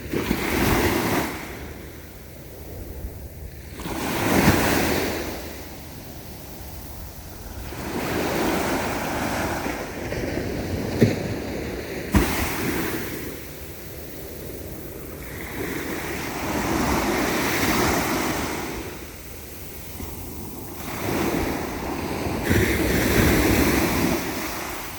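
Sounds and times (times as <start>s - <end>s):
ocean waves breaking: 3.4s - 24.9s.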